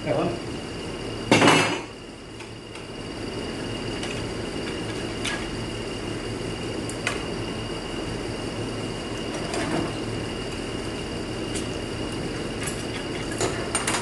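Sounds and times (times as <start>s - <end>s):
faint high whine: 0.0s - 14.0s
shop hum: 0.0s - 14.0s.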